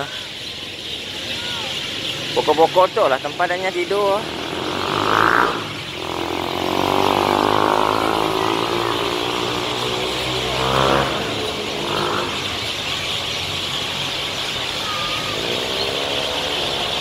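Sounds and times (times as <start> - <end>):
flock of birds chattering: 0.0 - 17.0
vehicle engine passing: 2.2 - 17.0.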